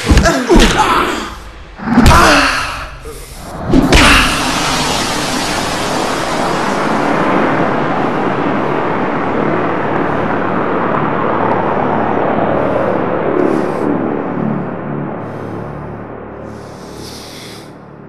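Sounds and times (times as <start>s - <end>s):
loud rushing rumble: 0.0s - 18.0s.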